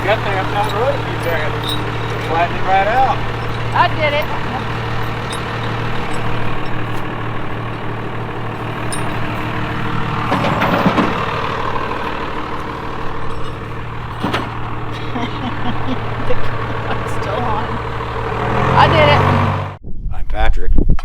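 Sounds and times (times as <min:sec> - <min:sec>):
backhoe diesel engine running: 0:00.0 - 0:19.8.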